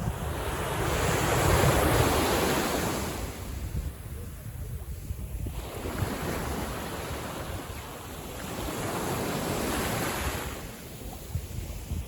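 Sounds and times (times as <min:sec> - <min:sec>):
sea waves washing in: 0:00.0 - 0:12.0
wind rumbling on microphone: 0:00.0 - 0:12.0.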